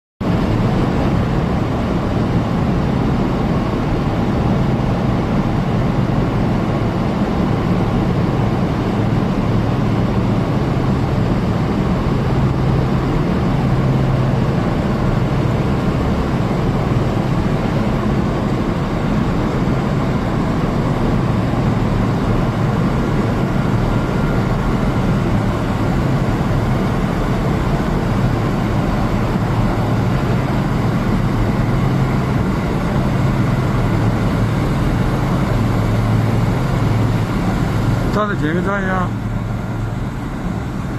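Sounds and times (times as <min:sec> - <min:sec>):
oil burner roaring low: 0:00.2 - 0:40.9.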